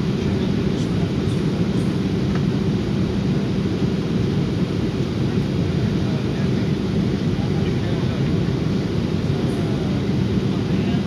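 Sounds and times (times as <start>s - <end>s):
jet engine cabin drone: 0.0s - 11.0s.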